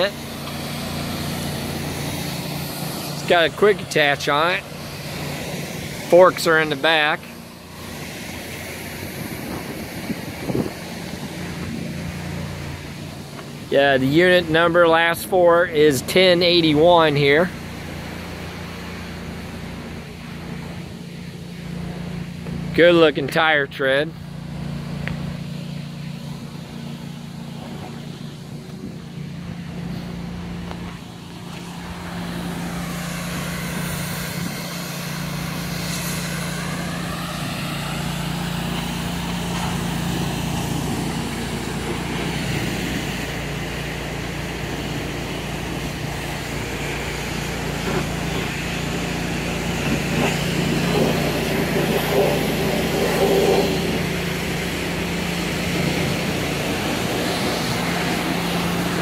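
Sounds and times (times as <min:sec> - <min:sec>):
broad rushing noise: 0:00.0 - 0:59.0
diesel engine idling: 0:00.0 - 0:59.0.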